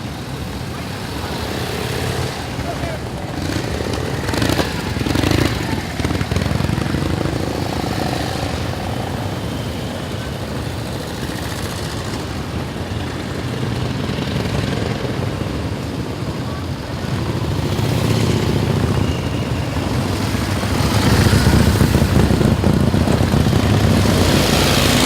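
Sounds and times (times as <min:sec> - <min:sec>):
motorcycle engines running: 0:00.0 - 0:25.0.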